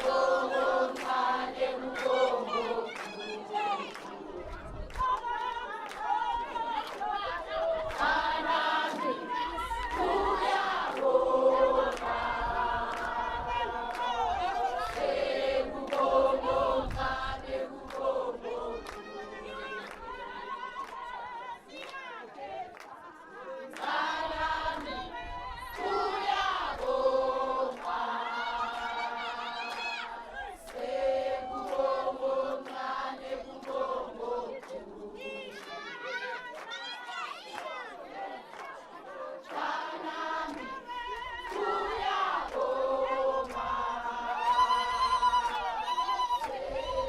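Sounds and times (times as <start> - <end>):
group singing in chorus: 0.0 - 47.0.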